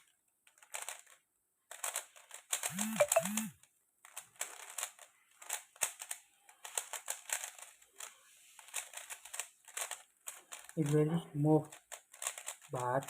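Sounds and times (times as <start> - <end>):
speed cube clicking as turned: 0.0 - 13.0.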